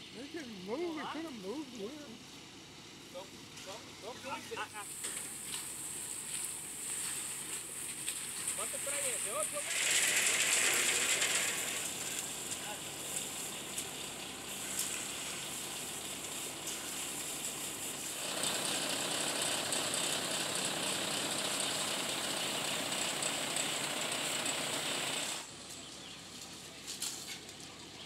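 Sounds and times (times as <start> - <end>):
concrete mixer truck running: 0.0 - 28.0
raking wet concrete: 5.0 - 28.0.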